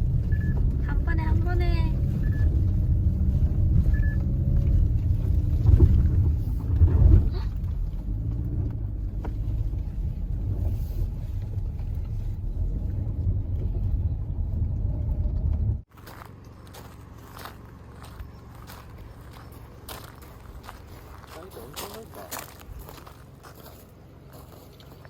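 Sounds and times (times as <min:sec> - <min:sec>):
car rumbling at low speed: 0:00.0 - 0:25.0.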